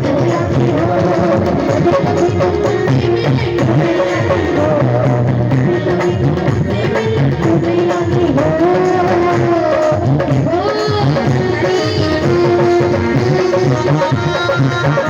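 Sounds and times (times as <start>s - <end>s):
hand drum rhythm: 0.0s - 15.0s
harmonium melody: 0.0s - 15.0s.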